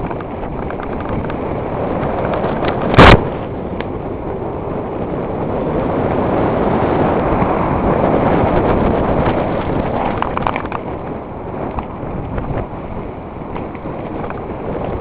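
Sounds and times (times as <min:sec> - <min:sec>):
bike tyres on gravel: 0:00.0 - 0:15.0
wind on microphone: 0:00.0 - 0:15.0.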